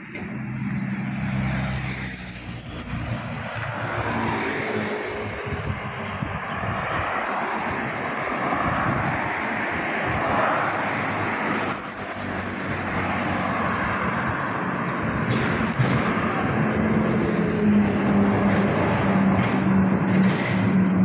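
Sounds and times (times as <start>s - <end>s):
cars passing: 0.0s - 21.0s.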